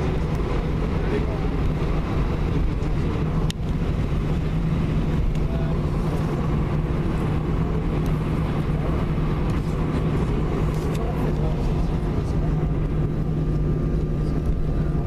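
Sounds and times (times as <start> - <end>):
airliner engines droning: 0.0 - 15.0.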